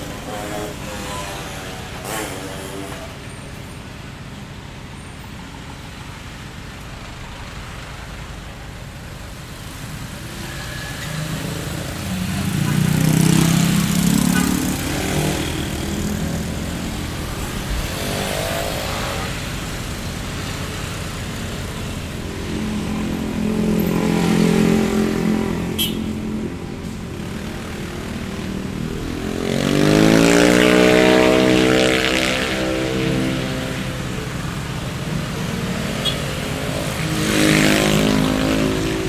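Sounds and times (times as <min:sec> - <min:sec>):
vehicles passing: 0:00.0 - 0:39.0
engine pulling away: 0:07.0 - 0:39.0.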